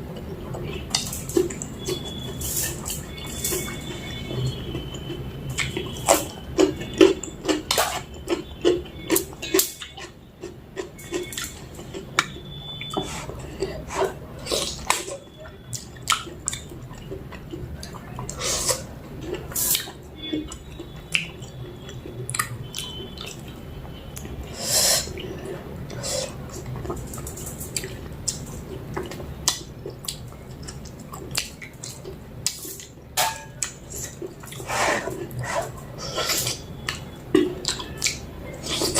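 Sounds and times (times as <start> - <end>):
wet chewing and smacking: 0.1 - 24.5, 25.1 - 38.9.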